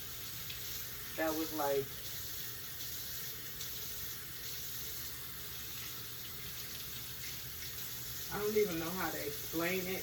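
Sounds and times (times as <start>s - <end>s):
utensils being washed: 0.0s - 10.0s.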